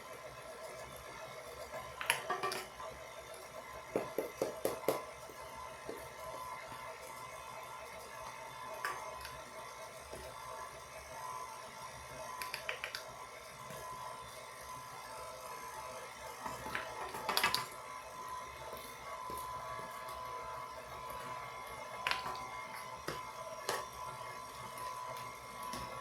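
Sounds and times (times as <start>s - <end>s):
electric mixer running: 0.0s - 26.0s.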